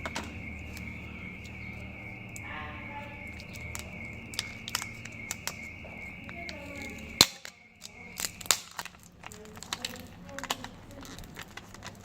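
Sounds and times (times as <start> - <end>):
high-pitched whine: 0.0 - 10.1
low hum: 0.0 - 10.3.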